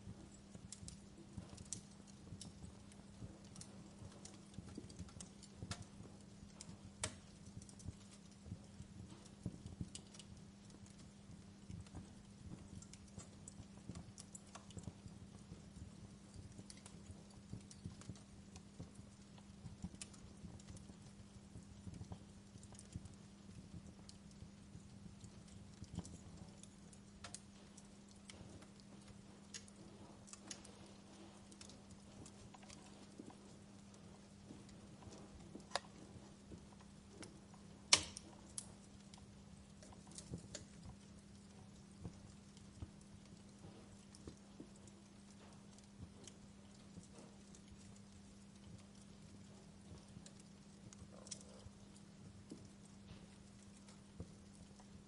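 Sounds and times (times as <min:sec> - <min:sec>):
low steady hum: 0:00.0 - 0:55.0
wood fire crackling: 0:00.0 - 0:55.0.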